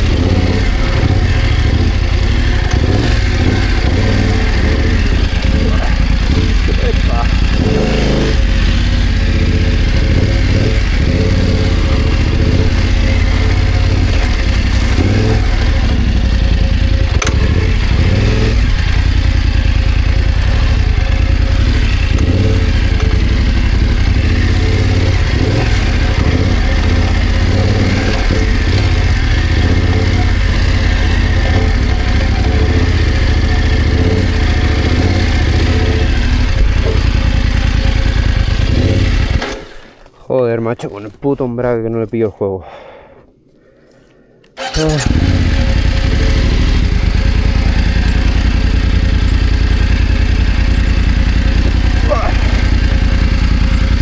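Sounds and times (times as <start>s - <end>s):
motorcycle engine running: 0.0s - 40.0s, 44.6s - 54.0s.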